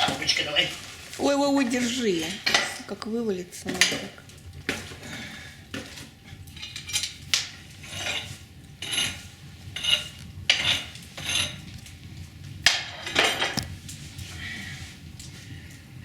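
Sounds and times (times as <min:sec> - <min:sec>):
metal fireplace tools clanking: 0:00.0 - 0:14.0.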